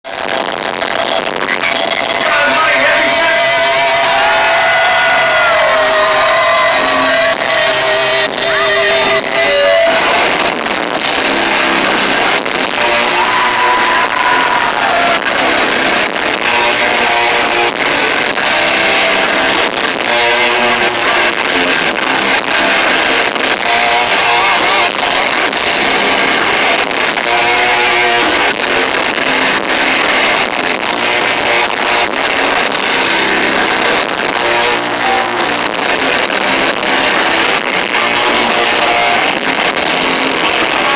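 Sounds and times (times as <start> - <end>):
distorted electric guitars: 0.0 - 40.9
drum hits: 7.3 - 40.9.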